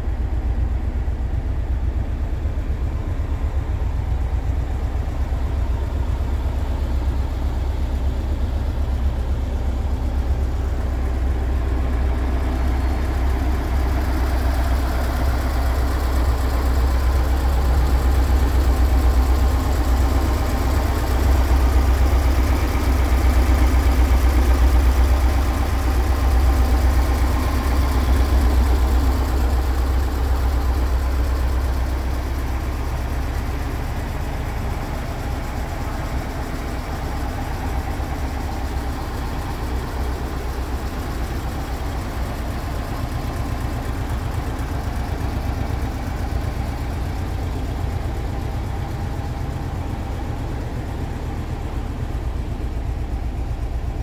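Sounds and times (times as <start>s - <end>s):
engine idling with low rumble: 0.0s - 54.0s.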